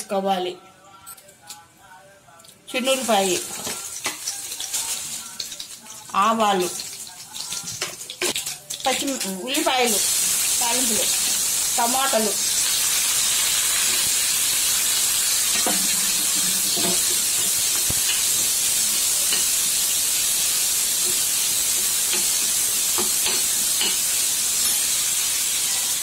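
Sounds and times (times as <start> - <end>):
onions sizzling in hot oil: 2.8 - 26.0.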